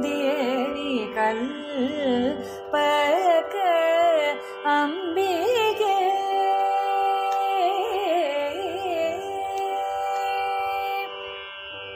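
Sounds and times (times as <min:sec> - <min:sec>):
person singing: 0:00.0 - 0:11.1.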